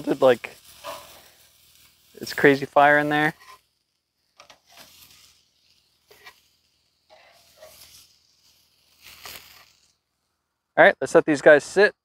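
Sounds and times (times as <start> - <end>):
metal tongs scraping grill grate: 0.0 - 10.0.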